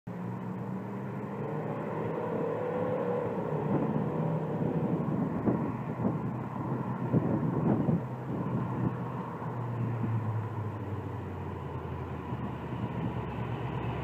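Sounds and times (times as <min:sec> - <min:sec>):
distant car engine: 0:00.1 - 0:14.0.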